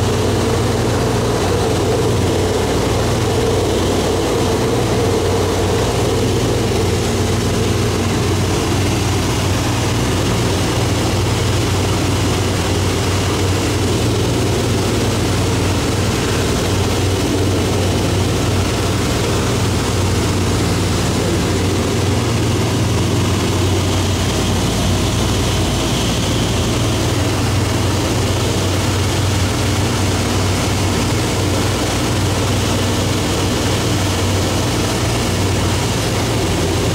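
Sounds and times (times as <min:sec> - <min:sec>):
light aircraft engine droning: 0:00.0 - 0:36.9
wind and airframe noise: 0:00.0 - 0:36.9.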